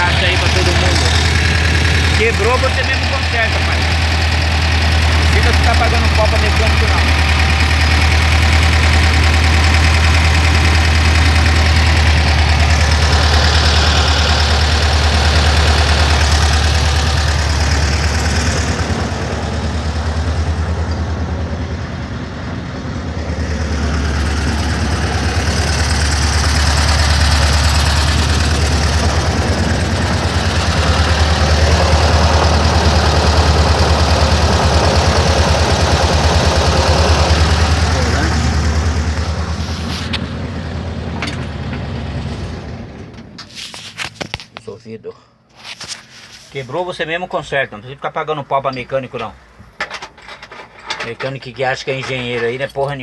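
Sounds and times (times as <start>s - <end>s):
van engine idling: 0.0s - 44.6s, 45.2s - 53.0s.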